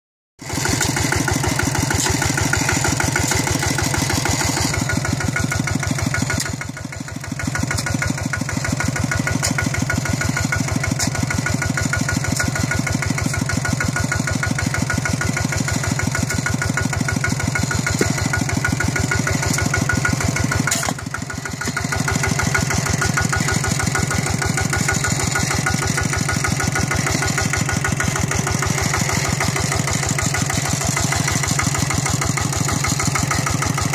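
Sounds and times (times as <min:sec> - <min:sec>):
diesel tractor engine running: 0:00.4 - 0:33.9.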